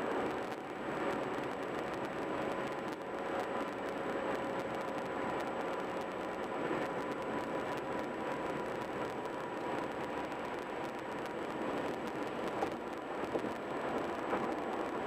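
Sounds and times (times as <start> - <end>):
car road and tyre noise: 0.0 - 15.0
faint steady whine: 0.0 - 15.0.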